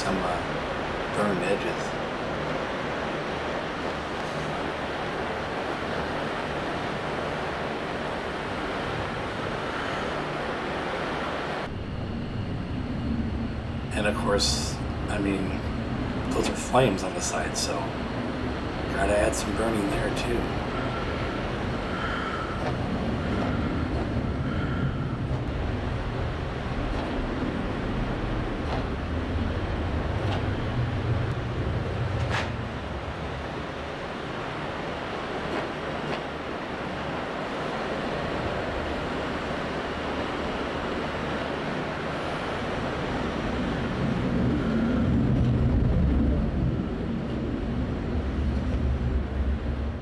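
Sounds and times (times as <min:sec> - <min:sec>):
gas torch flame roaring: 0:00.0 - 0:50.0.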